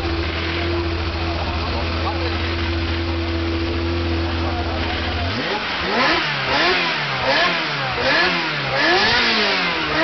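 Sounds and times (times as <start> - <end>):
car engine revving from idle: 0.0 - 10.0.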